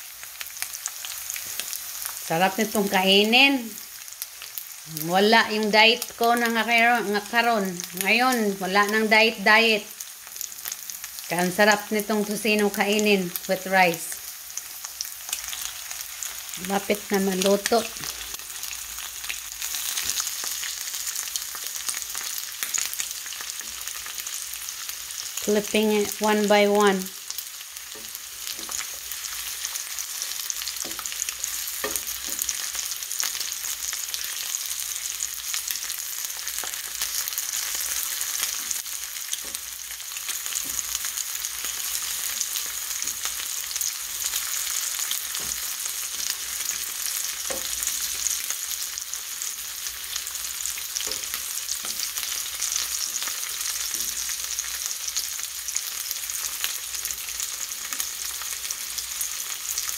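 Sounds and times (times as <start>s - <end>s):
meat sizzling in hot oil: 0.0s - 59.9s.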